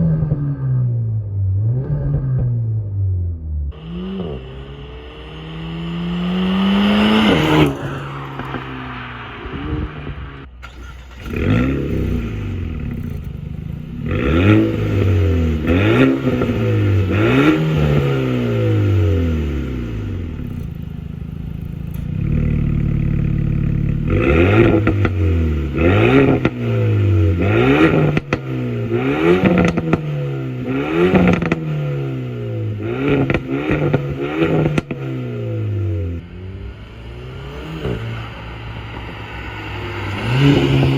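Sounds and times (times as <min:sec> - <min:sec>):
car engine revving: 0:00.0 - 0:40.9
car engine idling: 0:02.7 - 0:24.2, 0:24.8 - 0:40.9.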